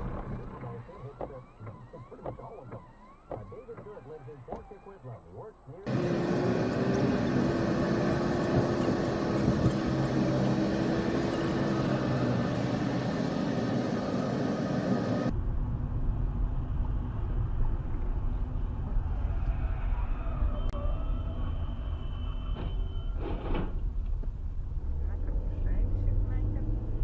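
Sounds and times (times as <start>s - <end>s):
car road and engine noise: 0.0s - 27.0s
deep rumbling road noise: 0.0s - 27.0s.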